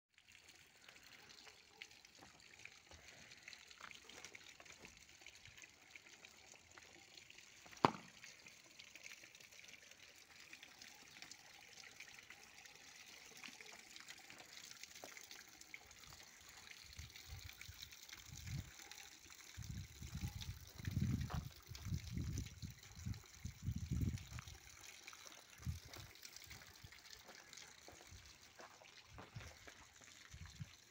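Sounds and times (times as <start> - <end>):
water trickling onto stones: 0.2 - 30.9.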